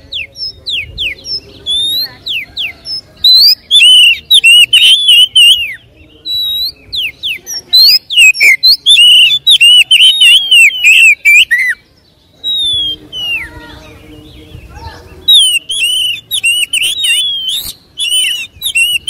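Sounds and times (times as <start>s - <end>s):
songbird whistling and chattering: 0.0s - 19.0s.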